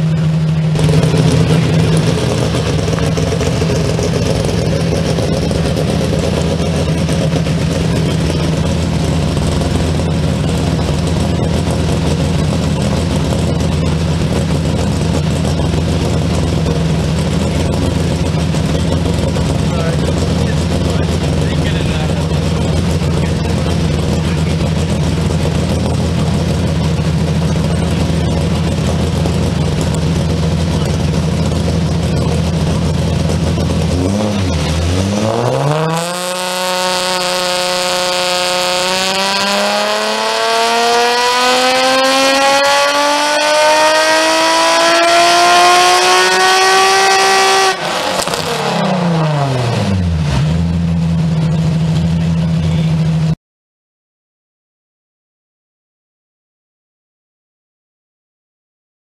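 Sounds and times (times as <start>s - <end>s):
car engine revving through exhaust: 0.0s - 53.4s.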